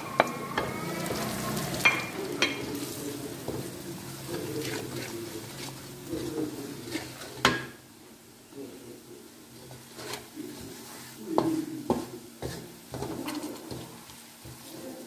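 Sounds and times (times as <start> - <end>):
low oil sizzle: 0.0 - 15.0
spatula scraping and clacking on pan: 0.1 - 7.8, 9.5 - 15.0.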